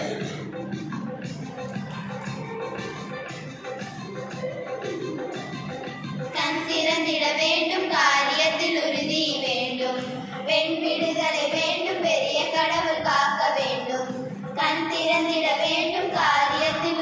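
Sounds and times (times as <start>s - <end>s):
girls singing together: 1.6s - 17.0s.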